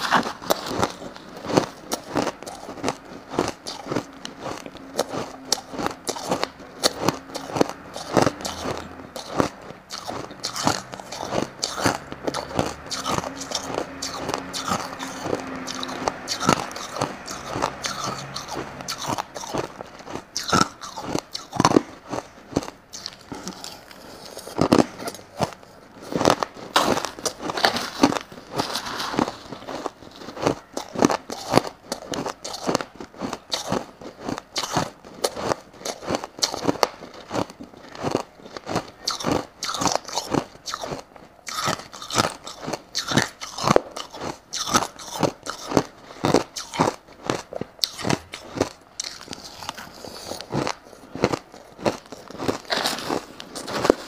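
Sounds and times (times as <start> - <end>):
crushed ice being chewed: 0.0 - 54.0.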